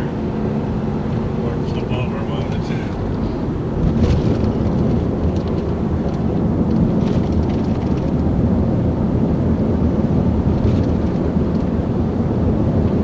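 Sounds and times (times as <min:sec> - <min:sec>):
car driving inside cabin: 0:00.0 - 0:13.0.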